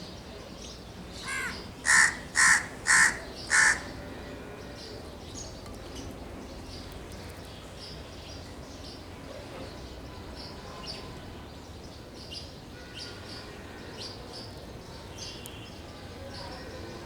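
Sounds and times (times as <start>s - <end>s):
sparrows chirping: 0.0s - 17.0s
steady background noise: 0.0s - 17.0s.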